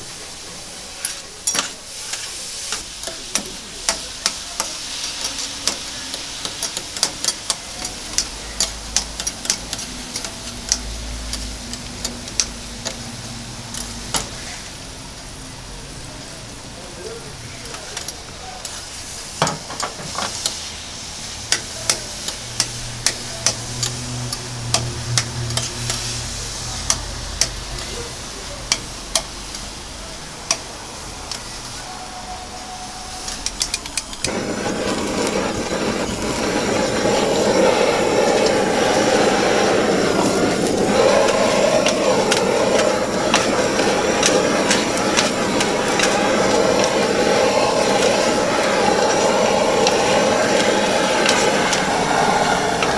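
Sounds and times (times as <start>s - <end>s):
loud steady hiss: 0.0s - 52.9s
meat sizzling on a griddle: 0.0s - 52.9s.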